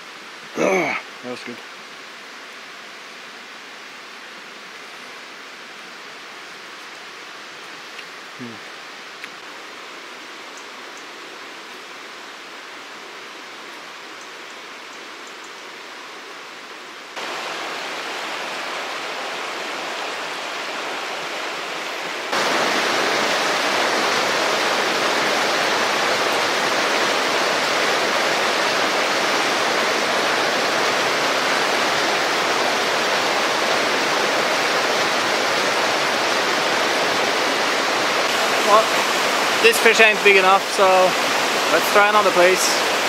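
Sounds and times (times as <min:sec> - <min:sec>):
rushing river water: 0:00.0 - 0:43.0.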